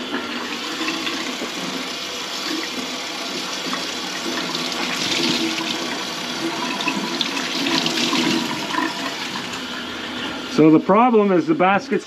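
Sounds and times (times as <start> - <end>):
faucet water running into sink: 0.0 - 10.6.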